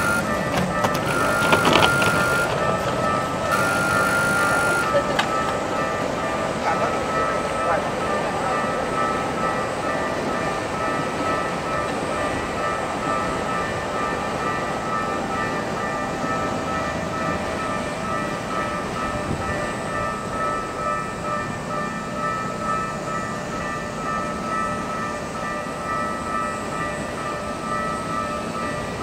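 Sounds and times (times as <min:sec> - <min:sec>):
level crossing bell ringing: 0:00.0 - 0:29.0
rumble of rail traffic: 0:00.0 - 0:29.0.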